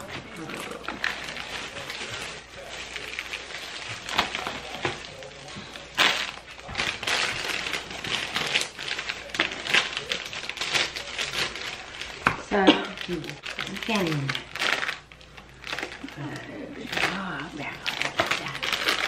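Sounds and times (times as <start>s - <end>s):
candy wrappers crinkling: 0.0s - 19.0s.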